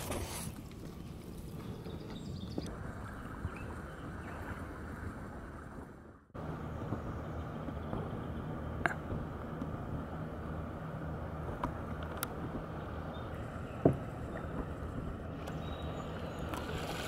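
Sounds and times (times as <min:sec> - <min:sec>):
low engine hum: 0:00.0 - 0:17.0
wash of noise: 0:02.7 - 0:17.0.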